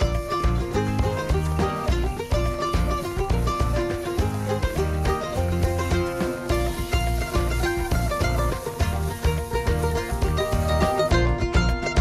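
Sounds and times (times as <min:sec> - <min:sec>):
upbeat plucked-string music: 0:00.0 - 0:12.0.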